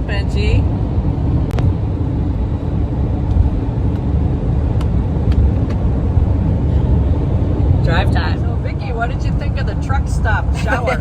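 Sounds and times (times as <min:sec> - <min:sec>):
van road and engine noise: 0:00.0 - 0:11.0.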